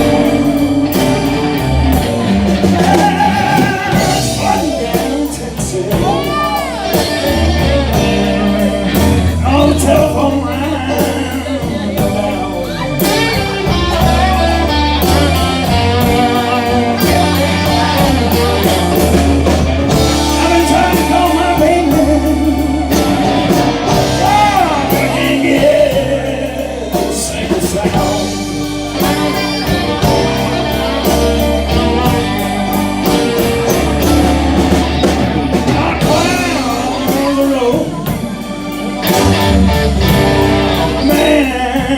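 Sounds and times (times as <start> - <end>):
bass and drums: 0.0 - 41.9
electric guitar bent notes: 0.0 - 41.9
person singing: 0.0 - 41.9.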